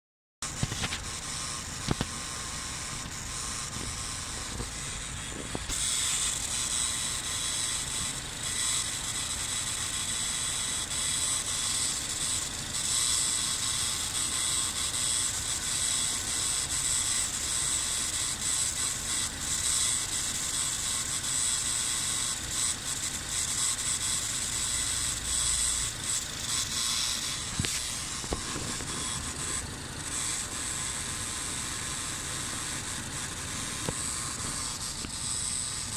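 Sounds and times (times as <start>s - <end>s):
high-pitched hissing noise: 0.4s - 35.9s.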